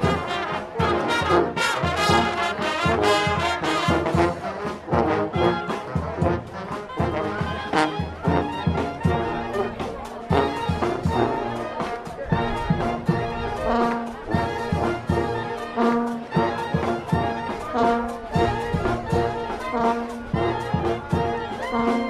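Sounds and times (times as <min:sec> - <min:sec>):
brass band playing: 0:00.0 - 0:22.0
steady drum beat: 0:00.0 - 0:22.0.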